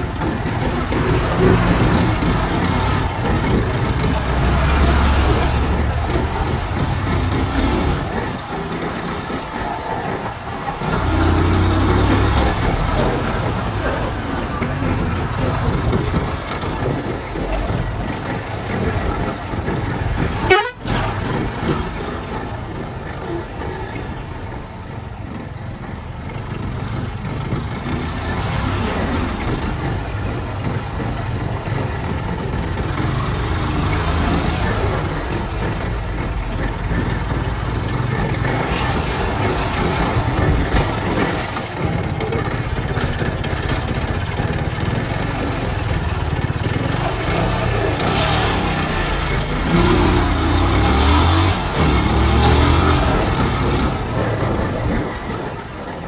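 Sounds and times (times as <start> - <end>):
vehicle engines and trucks running: 0.0 - 56.0.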